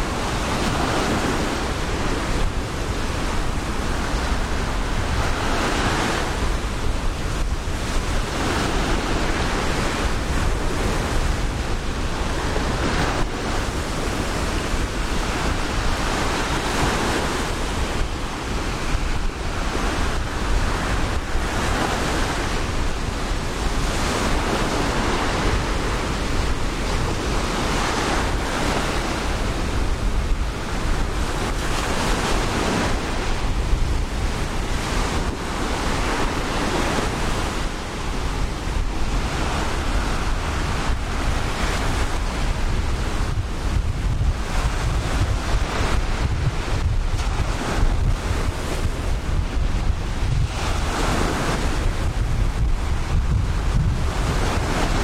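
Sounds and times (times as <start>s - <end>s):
ocean surf breaking: 0.0s - 55.0s
wind buffeting microphone: 0.0s - 55.0s.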